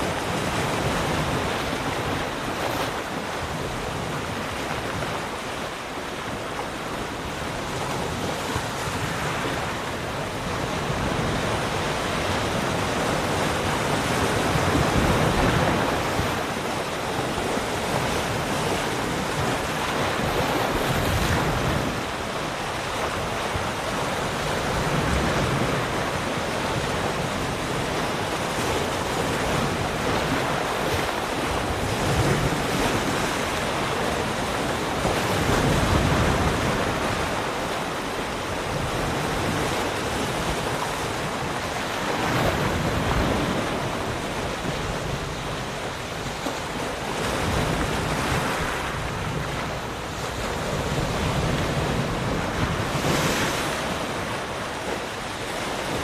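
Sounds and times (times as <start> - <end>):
ocean waves breaking: 0.0 - 56.0
wind noise: 0.0 - 56.0.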